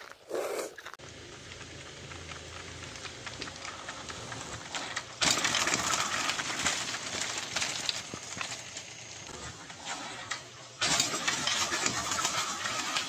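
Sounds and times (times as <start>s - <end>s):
bike tyres crunching on gravel: 0.0s - 12.8s.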